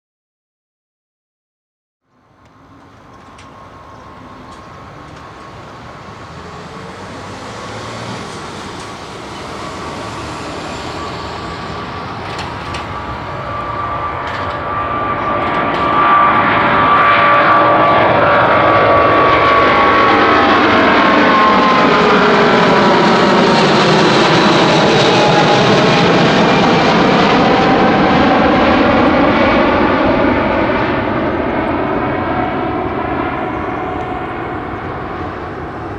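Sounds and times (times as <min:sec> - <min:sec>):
high fan whine: 0:02.2 - 0:35.9
jet engines roaring at takeoff: 0:02.2 - 0:35.9.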